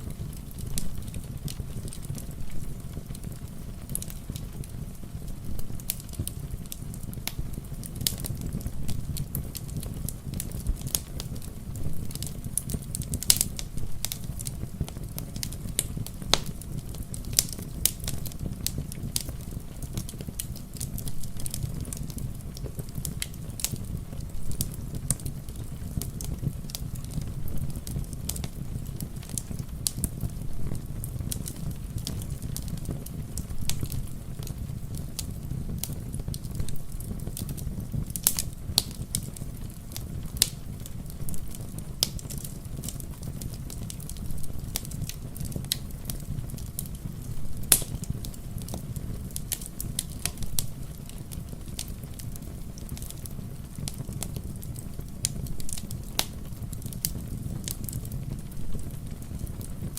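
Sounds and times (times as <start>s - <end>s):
rain pattering: 0.0s - 59.9s
wood fire crackling and popping: 0.0s - 59.9s.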